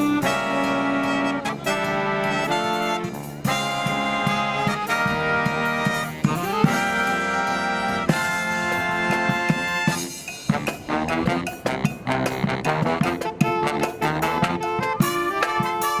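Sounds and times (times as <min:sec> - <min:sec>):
marching brass band playing: 0:00.0 - 0:16.0.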